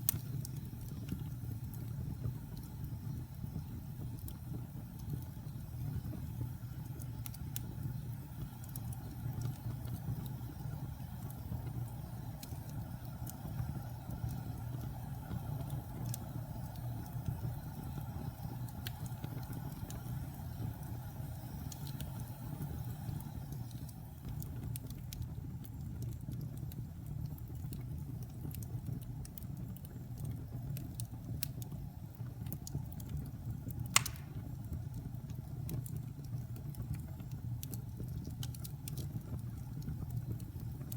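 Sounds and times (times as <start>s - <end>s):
fire crackling and popping: 0.0s - 40.9s
low rumble of fire: 0.0s - 40.9s.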